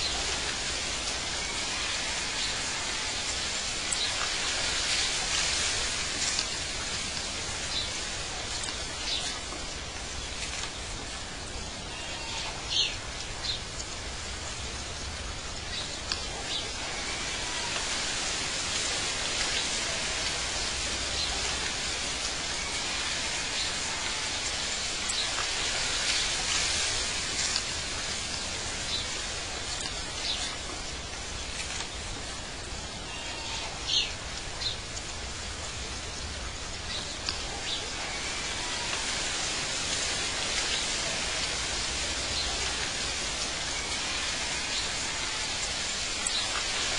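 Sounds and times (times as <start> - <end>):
rain or rushing water hiss: 0.0 - 46.9.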